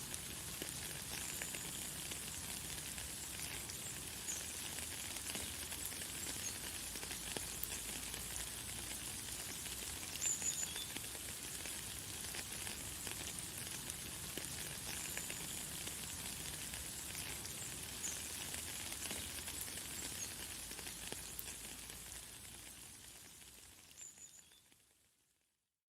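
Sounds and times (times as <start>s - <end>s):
light rain pattering: 0.0s - 25.6s.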